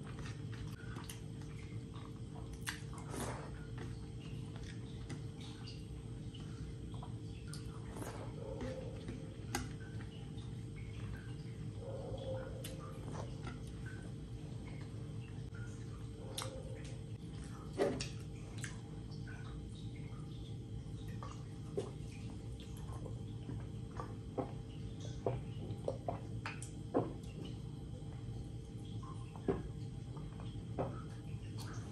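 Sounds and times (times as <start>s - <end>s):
wet mouth eating sounds: 0.0s - 19.9s, 21.0s - 31.9s
steady low hum: 0.0s - 31.9s
swallowing gulps: 0.0s - 31.9s.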